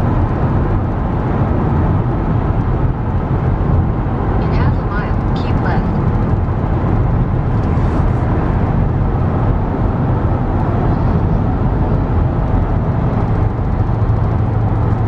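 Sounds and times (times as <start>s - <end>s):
car road noise rumble: 0.0s - 15.0s.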